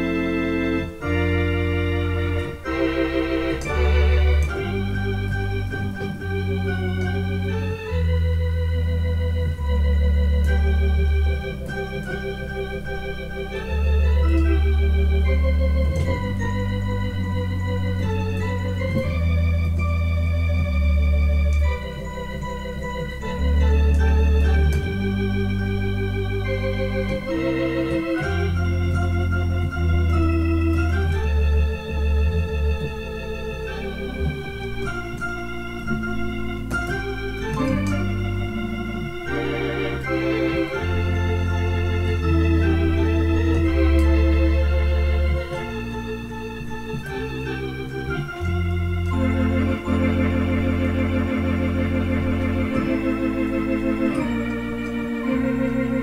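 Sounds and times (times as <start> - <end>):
electronic organ melody: 0.0 - 56.0.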